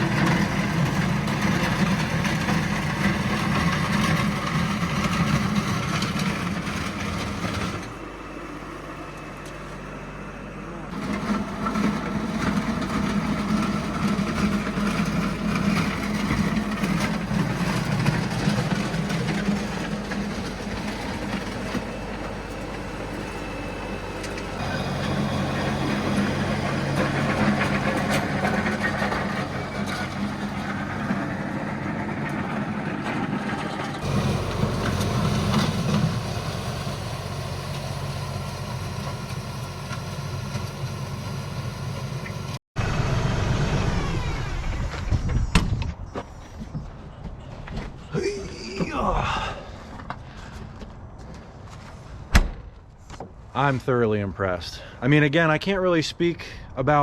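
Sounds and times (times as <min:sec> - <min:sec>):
tractor diesel engine under load: 0:00.0 - 0:52.2, 0:53.5 - 0:57.0.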